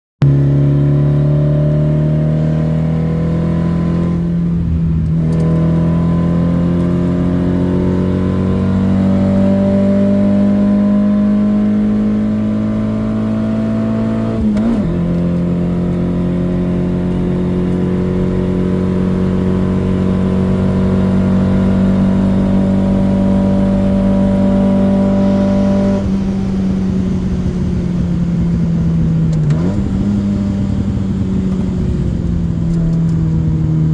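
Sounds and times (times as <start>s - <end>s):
car engine under full throttle: 0.2s - 33.9s.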